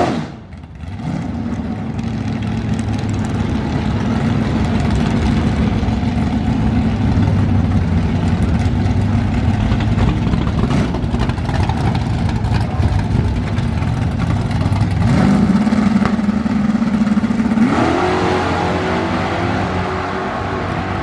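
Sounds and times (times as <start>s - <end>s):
car engine idling and accelerating: 0.0s - 21.0s.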